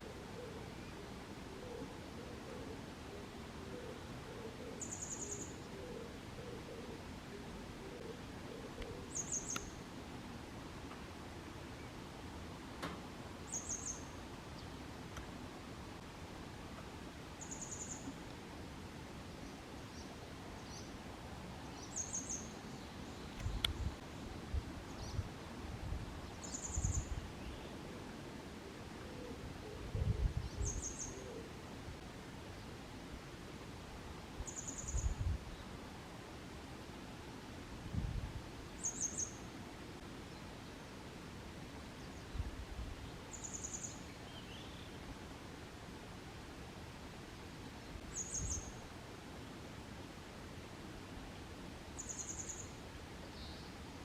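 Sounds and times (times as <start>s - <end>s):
faint outdoor hiss: 0.0s - 54.0s
low background noise: 0.0s - 54.0s.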